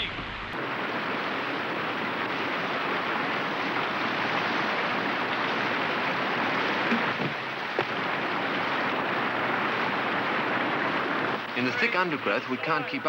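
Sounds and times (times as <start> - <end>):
river rapids rushing: 0.6 - 13.0.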